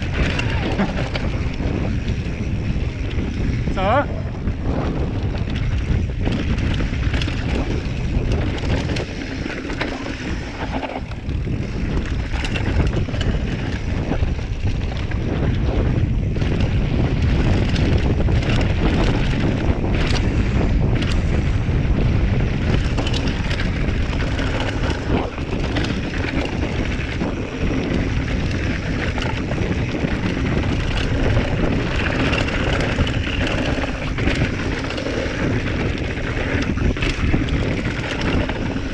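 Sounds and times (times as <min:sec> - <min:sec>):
bike knocking and rattling: 0:00.0 - 0:38.9
tyres rolling on dirt trail: 0:00.0 - 0:38.9
wind buffeting microphone: 0:00.0 - 0:38.9.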